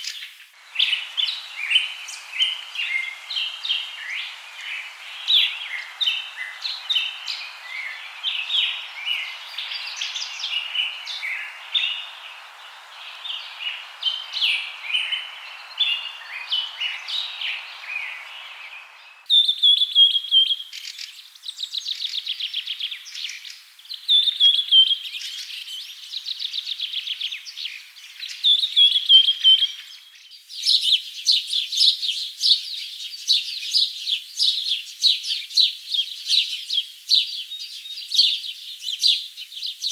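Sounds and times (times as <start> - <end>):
birds chirping and calling: 0.0 - 21.1, 28.3 - 39.9
background hiss: 0.0 - 39.9.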